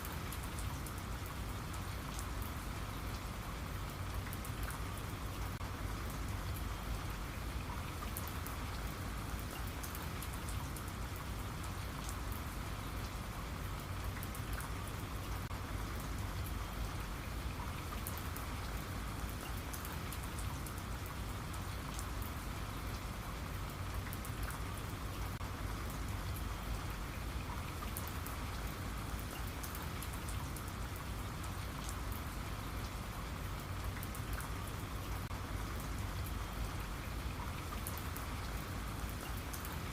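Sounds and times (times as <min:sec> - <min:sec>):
rain falling: 0:00.0 - 0:39.9
raindrops pattering on a surface: 0:00.0 - 0:39.9.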